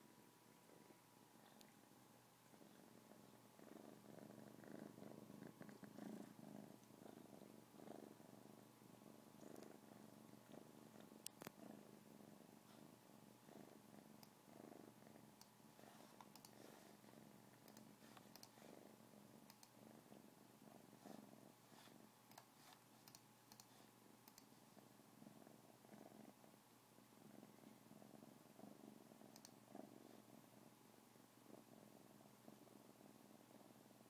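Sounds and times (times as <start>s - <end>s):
kitten purring: 0.5s - 22.2s, 24.5s - 34.0s.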